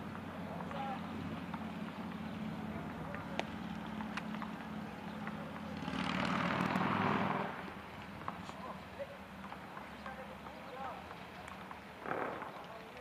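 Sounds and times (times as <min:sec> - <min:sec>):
low outdoor hum: 0:00.0 - 0:13.0.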